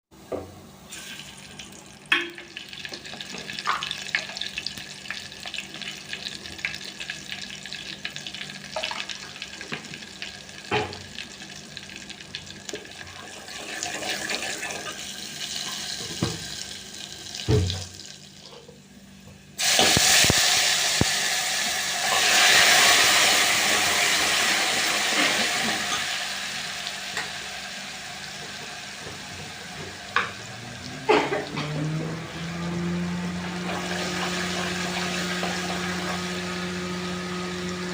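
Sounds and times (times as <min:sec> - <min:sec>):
loud sizzle in hot oil: 0:00.9 - 0:18.6, 0:19.6 - 0:37.9
low frying crackle: 0:01.3 - 0:14.0, 0:19.6 - 0:37.9.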